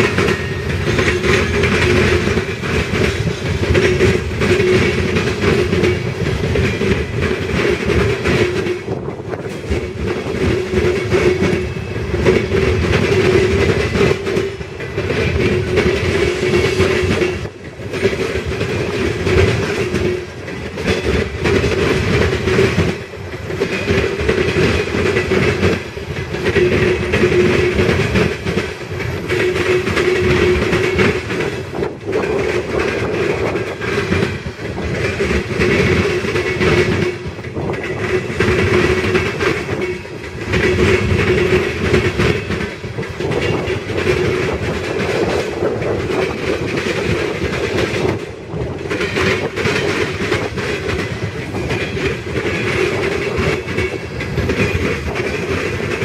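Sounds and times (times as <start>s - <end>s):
wheels clattering over rail joints: 0.0s - 56.0s.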